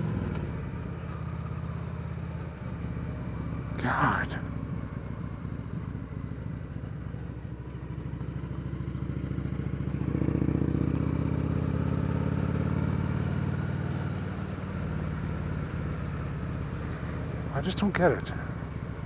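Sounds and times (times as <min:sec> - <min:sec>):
motorcycle engine accelerating: 0:00.0 - 0:03.8, 0:04.4 - 0:17.6.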